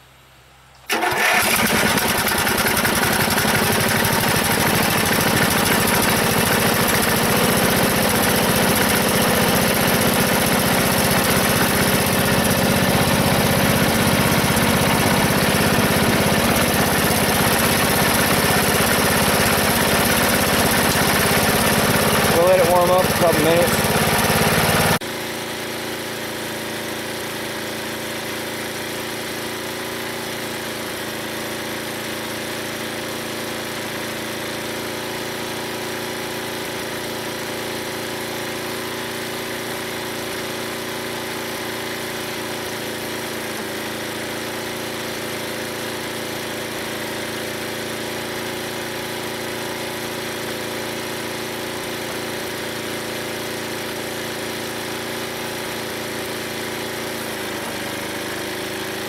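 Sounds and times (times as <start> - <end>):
gas engine running: 0.9 - 59.0.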